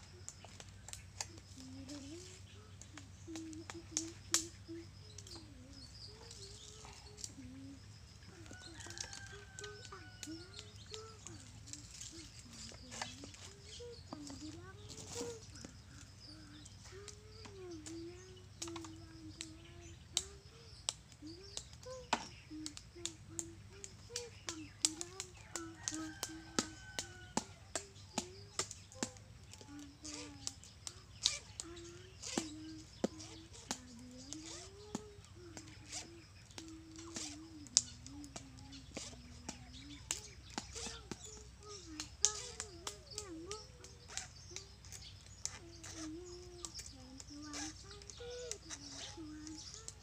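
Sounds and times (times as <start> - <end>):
bird calls: 0.0 - 50.0.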